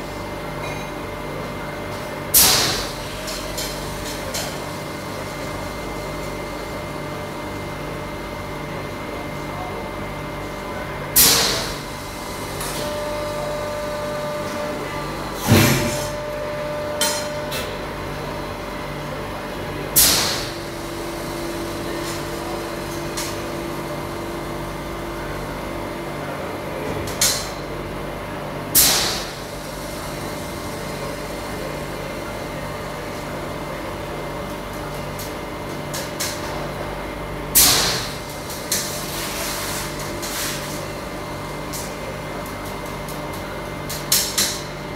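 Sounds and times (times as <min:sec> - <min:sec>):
machinery humming: 0:00.0 - 0:44.9.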